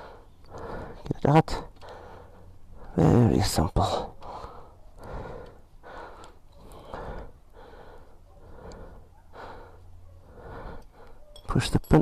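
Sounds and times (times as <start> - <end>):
person breathing: 0.0 - 3.0, 4.1 - 11.3.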